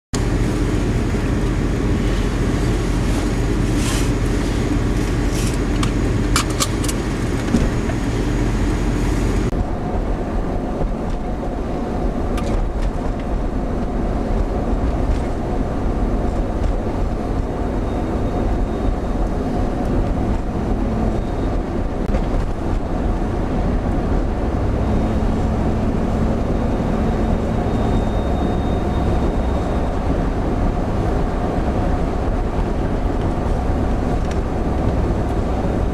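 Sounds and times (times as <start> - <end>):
blizzard wind: 0.2 - 35.9
vehicle running: 0.2 - 35.9.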